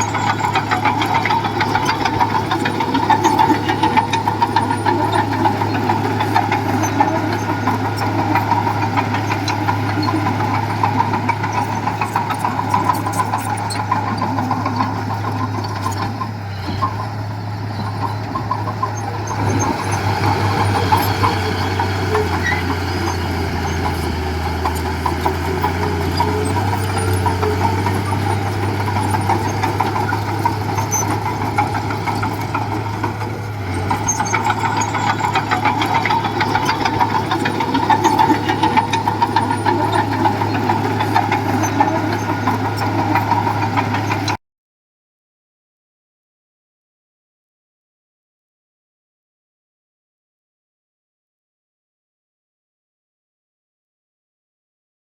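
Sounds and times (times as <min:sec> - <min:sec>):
diesel engine of heavy equipment: 0:00.0 - 0:44.4.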